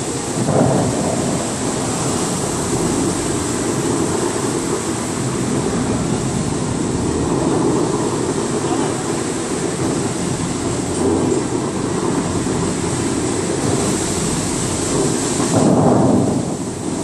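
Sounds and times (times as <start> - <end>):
fountain water rushing: 0.0 - 17.0.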